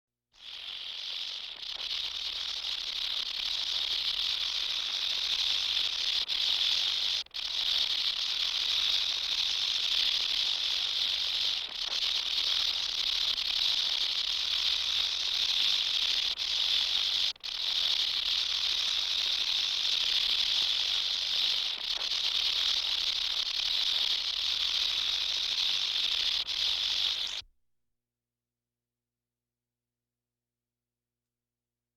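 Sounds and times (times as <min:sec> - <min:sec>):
rattlesnake tail rattling: 0:00.4 - 0:27.4.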